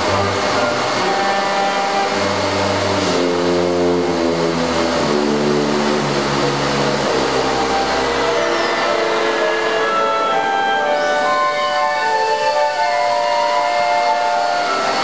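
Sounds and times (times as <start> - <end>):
vacuum cleaners droning: 0.0 - 15.0
wind band holding chords: 0.0 - 15.0.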